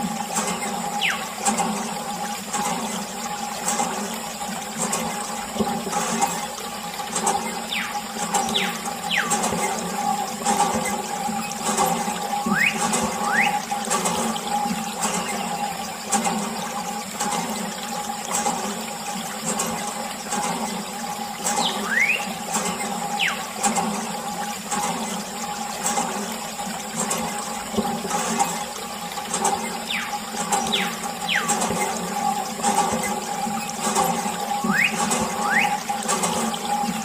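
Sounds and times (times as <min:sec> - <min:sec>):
water stream splashing: 0:00.0 - 0:37.0.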